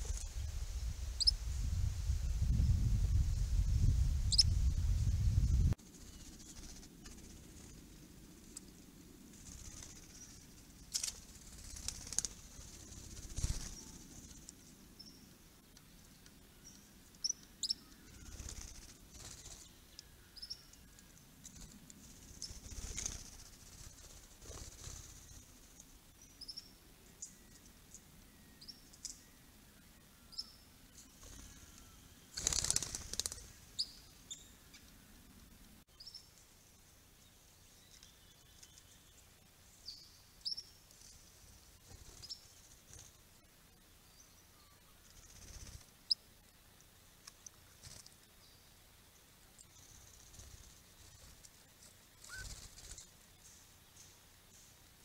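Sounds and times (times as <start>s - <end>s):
small birds chirping: 1.1s - 1.5s, 2.2s - 55.0s.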